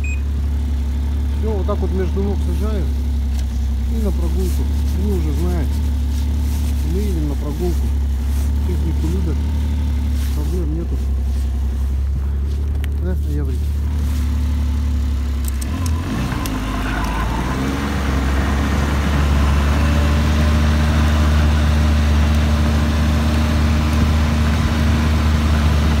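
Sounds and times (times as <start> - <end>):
snowmobile engine running: 0.1 - 26.0.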